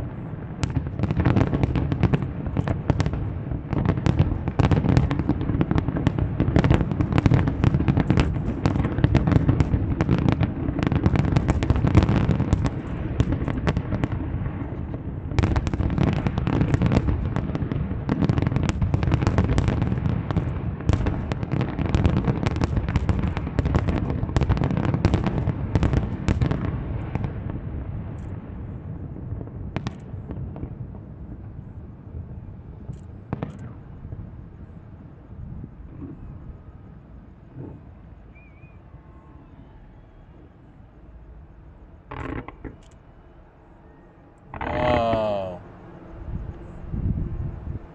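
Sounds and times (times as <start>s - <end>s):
fireworks bangs and crackles: 0.0s - 40.8s, 42.0s - 43.0s, 44.5s - 45.6s.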